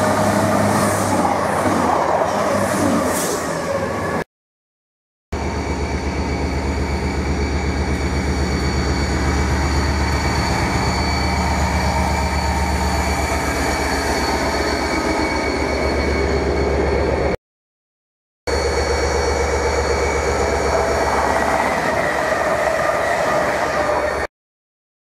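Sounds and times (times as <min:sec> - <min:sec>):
diesel locomotive rumble: 0:00.0 - 0:04.2, 0:05.4 - 0:17.4, 0:18.5 - 0:24.3.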